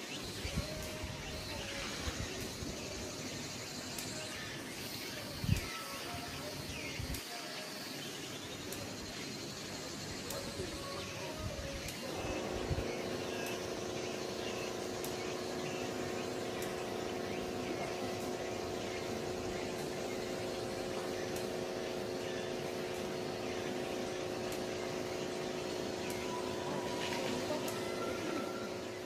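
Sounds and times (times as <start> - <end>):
motor humming: 0.0 - 29.0.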